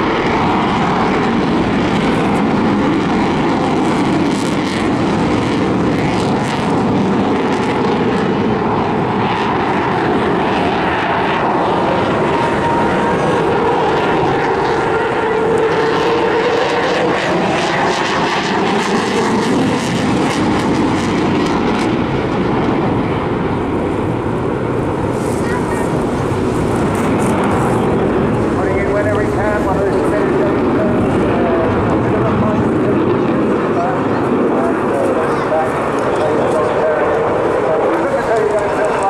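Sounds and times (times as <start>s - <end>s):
jet engines roaring with crackle: 0.0s - 39.0s.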